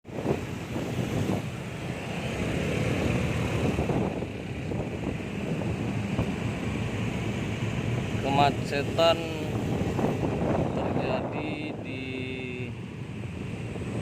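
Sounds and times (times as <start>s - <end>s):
road traffic rumble: 0.0s - 14.0s
wind buffeting microphone: 0.0s - 14.0s.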